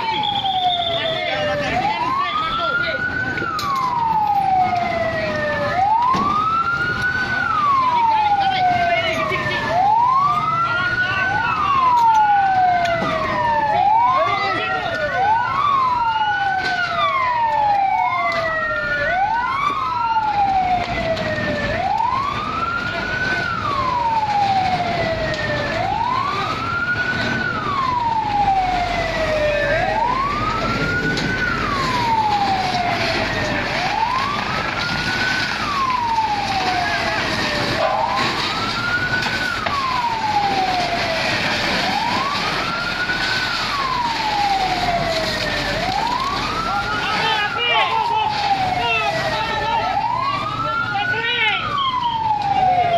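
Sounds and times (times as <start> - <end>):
fire engine siren wailing: 0.0 - 52.9
second siren: 0.0 - 52.9.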